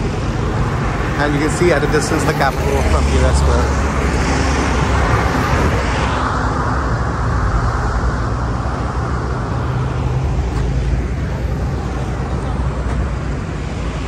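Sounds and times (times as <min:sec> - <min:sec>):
car passing: 0:00.0 - 0:14.0
low rumble of traffic: 0:00.0 - 0:14.0.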